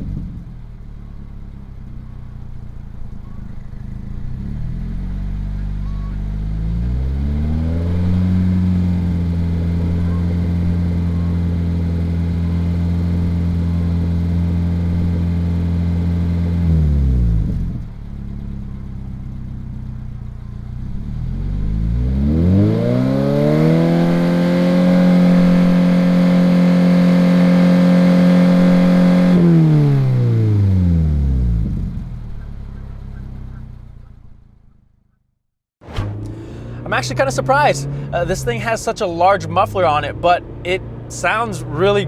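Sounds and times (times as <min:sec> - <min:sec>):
car engine revving and idling: 0:00.0 - 0:35.2, 0:35.8 - 0:42.0.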